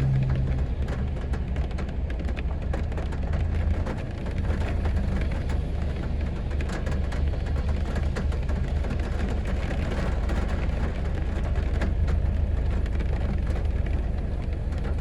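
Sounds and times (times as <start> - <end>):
close raindrop hits: 0.0 - 15.0
constant low rumble: 0.0 - 15.0.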